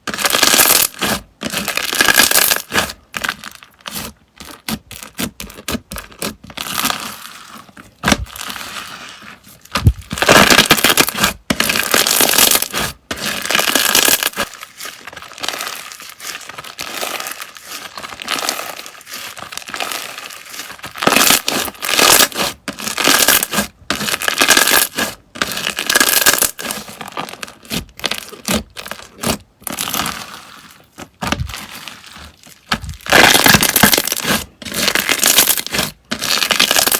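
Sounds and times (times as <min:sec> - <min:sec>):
slime crackling and popping: 0:00.1 - 0:07.3, 0:07.9 - 0:36.9.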